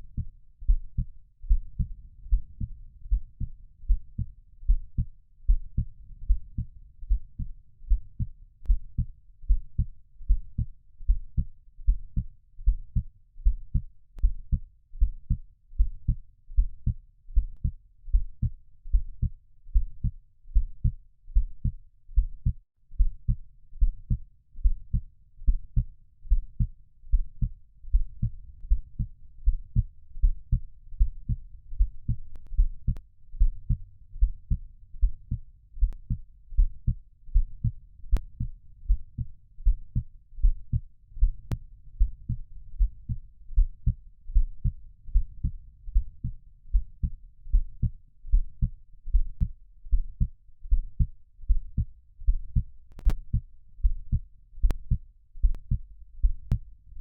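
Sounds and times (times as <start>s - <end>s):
heartbeat thumps: 0.0s - 56.7s.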